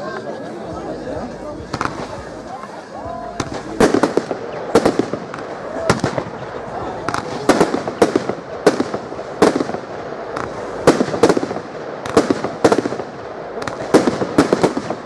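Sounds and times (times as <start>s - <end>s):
firework hiss: 1.4s - 15.0s
firework bangs: 1.6s - 15.0s.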